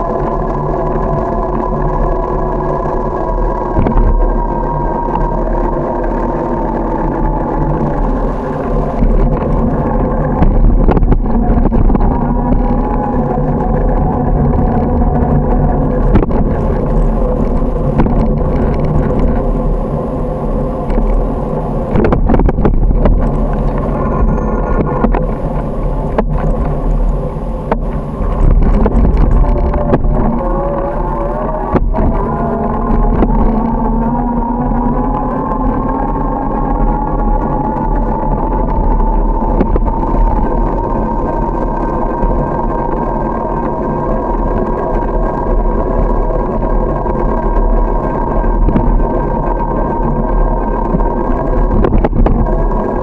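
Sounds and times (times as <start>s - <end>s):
wavering tones: 0.0s - 44.6s
wind and road rumble: 0.0s - 53.0s.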